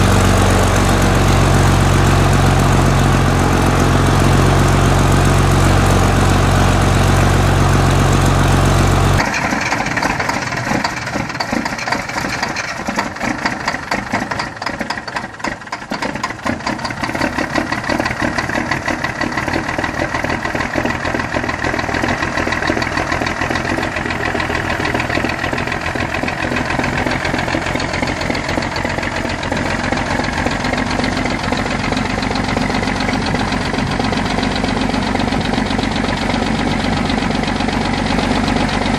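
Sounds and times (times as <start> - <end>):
diesel engine idling: 0.0 - 38.9
diesel engine knocking clatter: 0.0 - 38.9.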